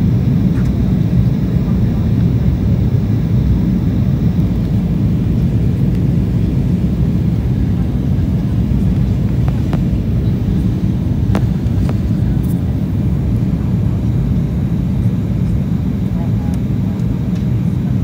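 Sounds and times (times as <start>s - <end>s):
airliner cabin engine rumble: 0.0s - 18.0s.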